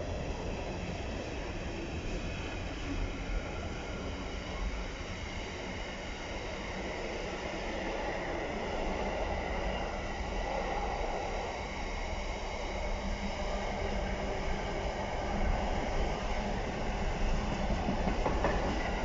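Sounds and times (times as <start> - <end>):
train wheels rolling on rails: 0.0 - 19.0.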